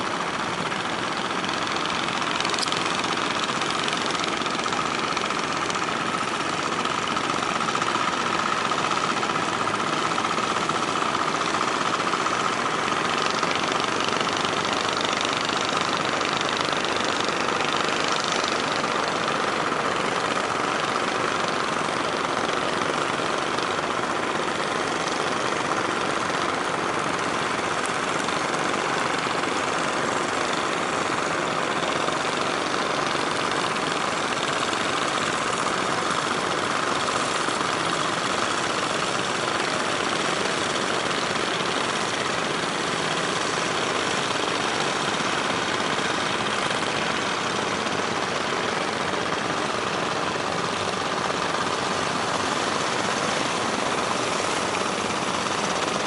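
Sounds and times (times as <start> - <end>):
boat engines droning: 0.0 - 56.0.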